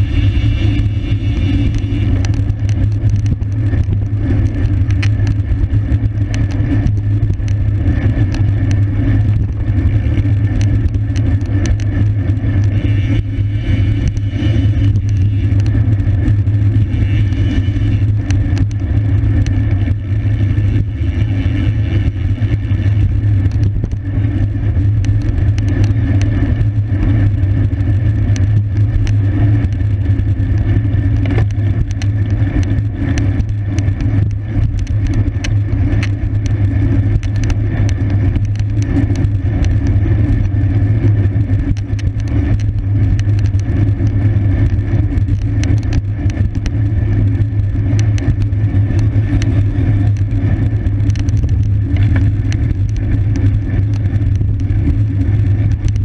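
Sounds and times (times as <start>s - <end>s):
bicycle wind and road rumble: 0.0s - 56.0s
small clicks and rattles: 0.0s - 56.0s.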